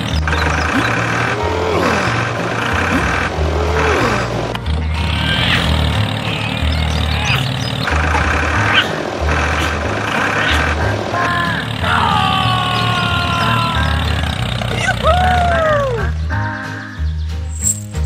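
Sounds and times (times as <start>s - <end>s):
toy tractor engine effect: 0.0s - 16.2s
music with pulsing bass: 0.0s - 18.0s.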